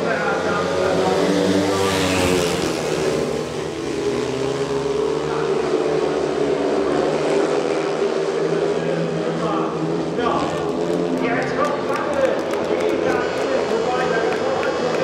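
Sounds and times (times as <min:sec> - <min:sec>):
motorcycles racing: 0:00.0 - 0:15.0.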